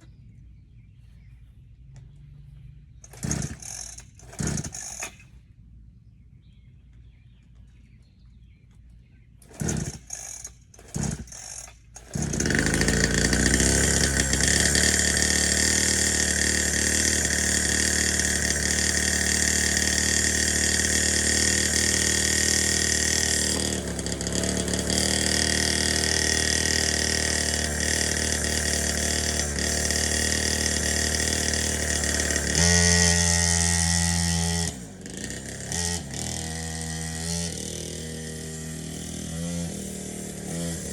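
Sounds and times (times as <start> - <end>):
dirtbike engine running: 2.0 - 5.3, 9.5 - 40.9
dirtbike engine kick-starting: 3.0 - 5.4, 9.4 - 40.9.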